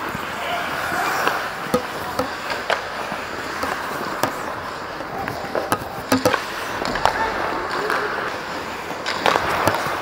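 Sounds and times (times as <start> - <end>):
hockey sticks and puck clacking: 0.0 - 10.0
skates scraping ice: 0.0 - 10.0.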